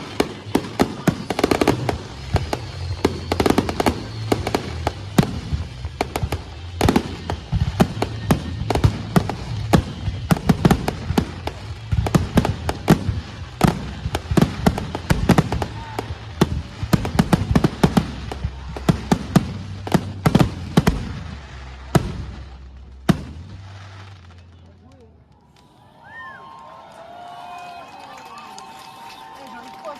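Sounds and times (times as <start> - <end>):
fireworks bursting and crackling: 0.0 - 29.9.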